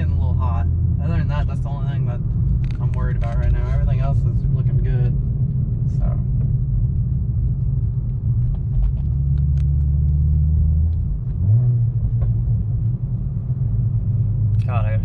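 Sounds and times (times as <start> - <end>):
car engine and exhaust rumble: 0.0 - 15.0.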